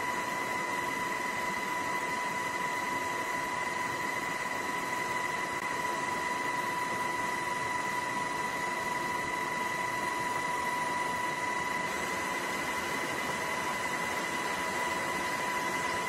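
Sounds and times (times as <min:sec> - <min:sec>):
constant high whine: 0:00.0 - 0:16.0.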